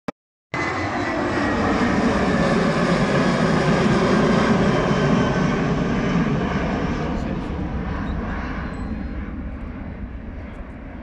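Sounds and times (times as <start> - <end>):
jet airliner engines roaring: 0.6 - 11.0.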